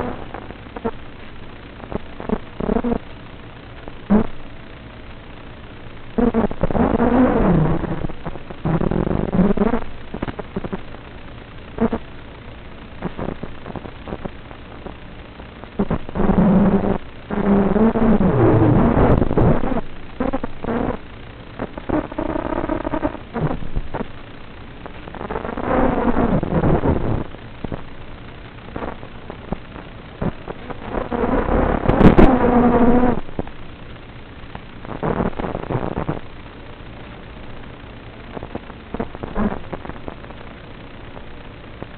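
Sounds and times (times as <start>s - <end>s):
rough hiss with crackles: 0.0s - 41.9s.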